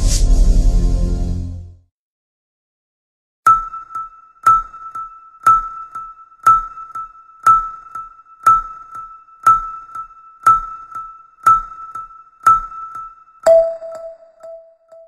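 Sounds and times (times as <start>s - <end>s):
electronic background music: 0.0s - 1.8s, 3.5s - 15.0s.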